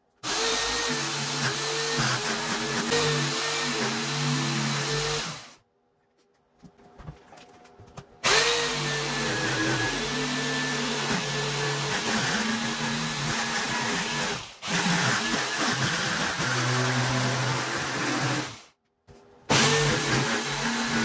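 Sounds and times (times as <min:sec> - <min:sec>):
jigsaw cutting with motor whine: 0:00.2 - 0:05.6, 0:08.2 - 0:18.7, 0:19.5 - 0:21.0.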